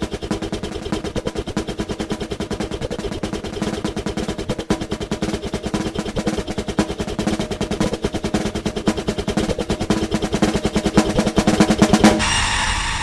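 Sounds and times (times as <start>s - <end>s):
drum roll of rapid strokes: 0.0s - 13.0s.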